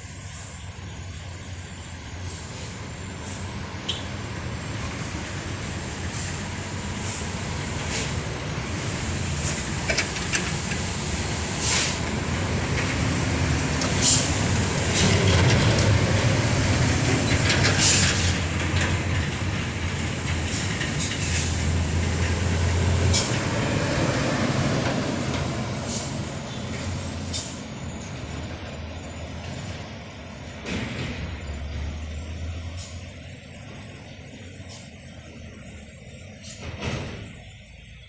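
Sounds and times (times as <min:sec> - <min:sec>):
truck engine rumbling: 0:00.0 - 0:38.0.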